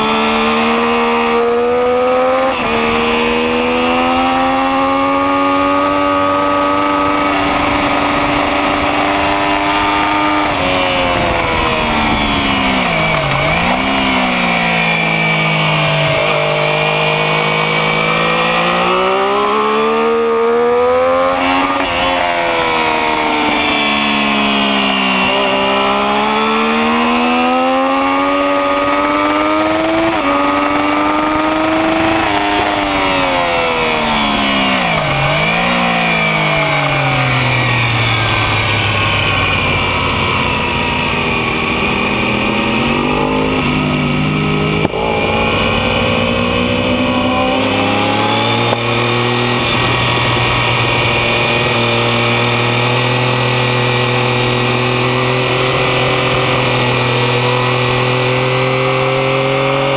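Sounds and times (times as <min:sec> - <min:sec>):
motorcycle engine running hard: 0:00.0 - 0:59.9.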